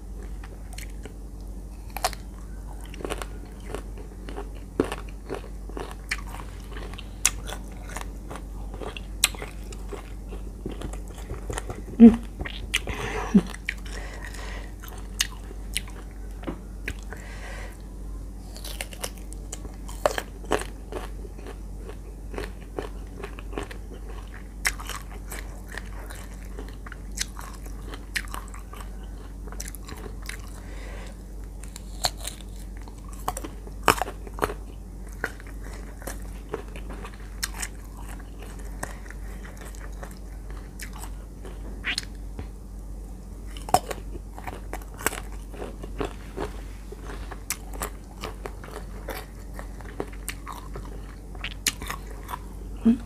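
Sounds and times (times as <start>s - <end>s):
crunching and chewing: 0.0s - 53.0s
steady low hum: 0.0s - 53.0s.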